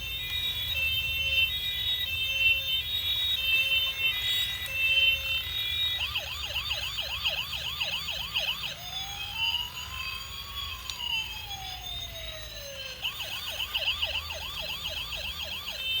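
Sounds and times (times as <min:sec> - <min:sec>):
toy fire truck siren: 0:00.0 - 0:16.0.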